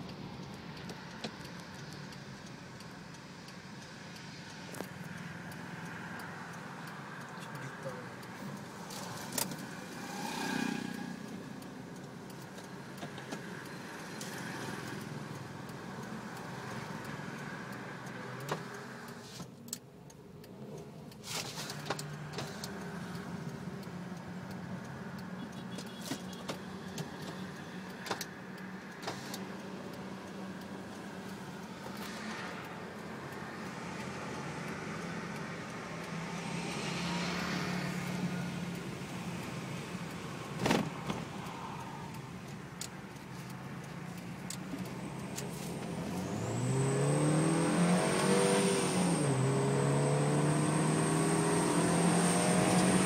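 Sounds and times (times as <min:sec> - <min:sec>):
car engine with whistling exhaust: 0:00.0 - 0:19.6, 0:20.4 - 0:53.0.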